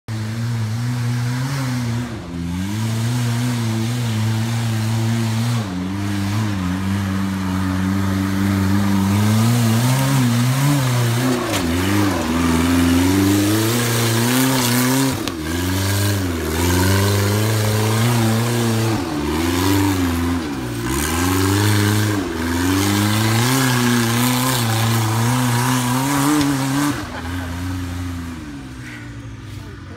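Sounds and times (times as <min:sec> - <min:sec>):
buggy engine revving hard: 0:00.1 - 0:29.9.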